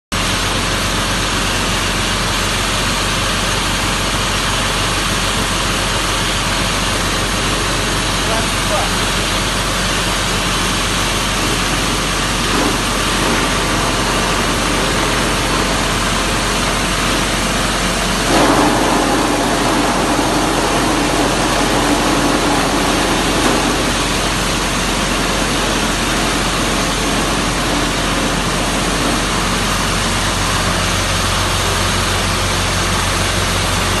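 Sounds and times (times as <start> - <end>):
thresher rushing noise: 3.8 - 34.0
low engine hum: 4.0 - 34.0.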